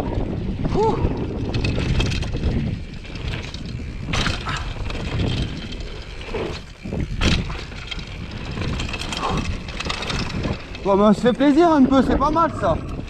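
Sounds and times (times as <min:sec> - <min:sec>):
bike rattling over bumps: 0:00.0 - 0:13.0
bike tyres rumbling on dirt: 0:00.0 - 0:13.0.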